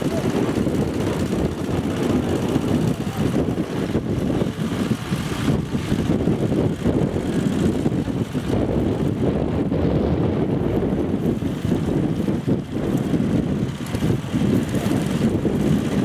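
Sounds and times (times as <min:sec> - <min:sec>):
walking tractor engine running: 0:00.0 - 0:16.0.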